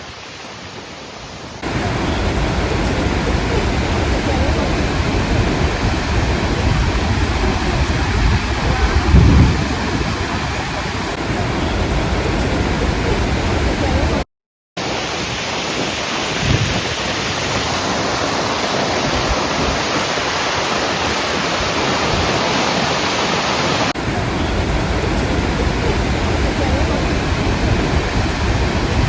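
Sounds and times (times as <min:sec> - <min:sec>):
waterfall rushing: 0:00.0 - 0:14.2, 0:14.8 - 0:29.0.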